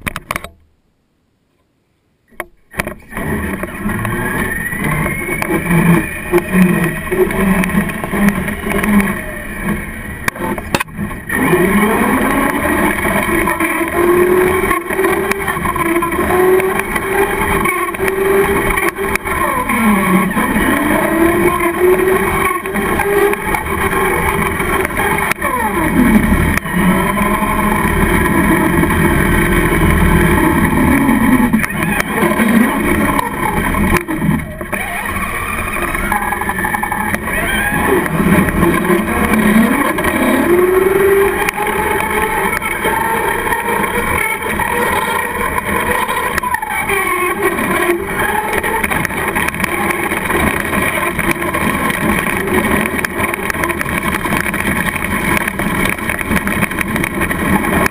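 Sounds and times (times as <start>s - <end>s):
toy truck motor whine: 2.7s - 57.9s.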